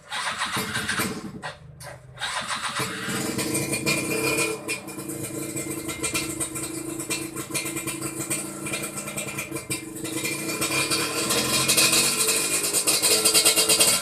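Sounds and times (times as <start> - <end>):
two-stroke engine idling: 0.0 - 14.0.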